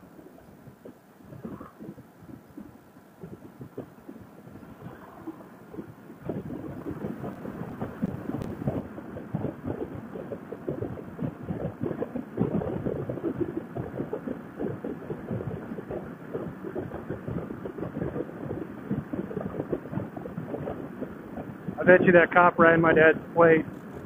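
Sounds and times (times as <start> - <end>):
wind buffeting microphone: 0.1 - 24.0.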